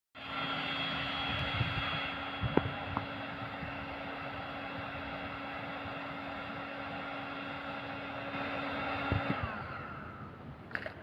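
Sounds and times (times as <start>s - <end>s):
motor hum with hiss: 0.2s - 11.0s.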